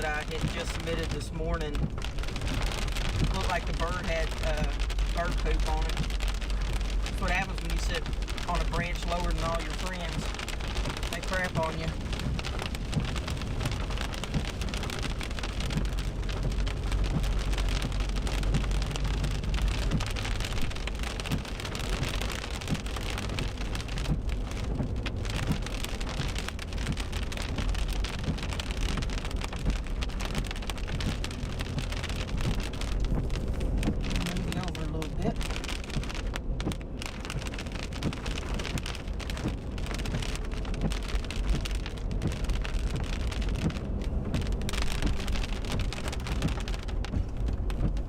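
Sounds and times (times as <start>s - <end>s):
heavy rain drumming on car roof: 0.0s - 48.0s
low rumble: 0.0s - 48.0s.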